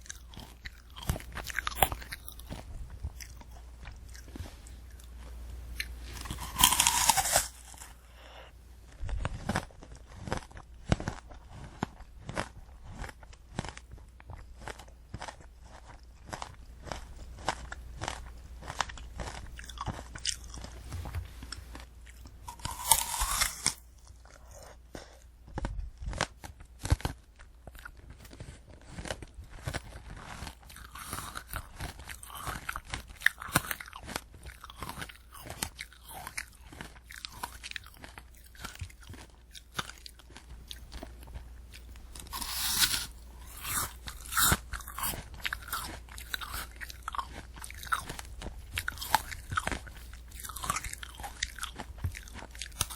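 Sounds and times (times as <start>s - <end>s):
chewing crunchy candy apple: 0.0s - 52.9s.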